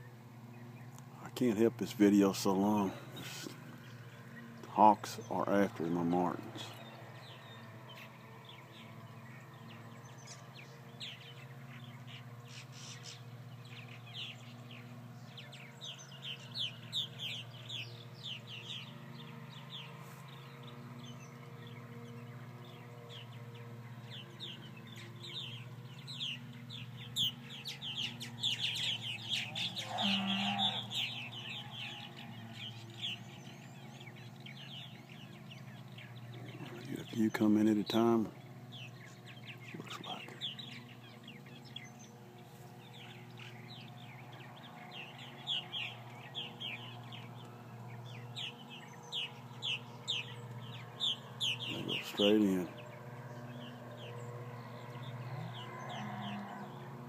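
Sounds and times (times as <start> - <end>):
birds chirping in flock: 0.0 - 57.0.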